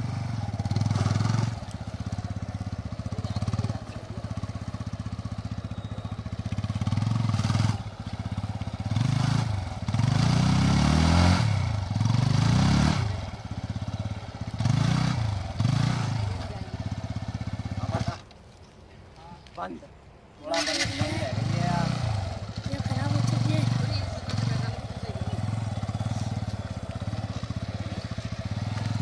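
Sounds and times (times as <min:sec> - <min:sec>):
motorcycle engine revving: 0:00.0 - 0:18.3, 0:20.5 - 0:29.0.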